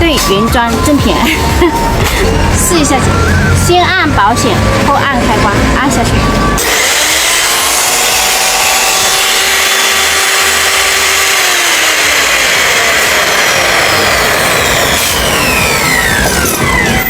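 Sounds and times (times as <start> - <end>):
circular saw motor whine: 0.3 - 17.0.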